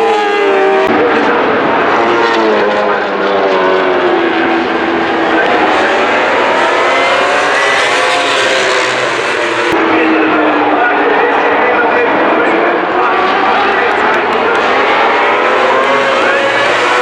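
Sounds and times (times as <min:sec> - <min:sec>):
racing engines revving: 0:00.0 - 0:17.0.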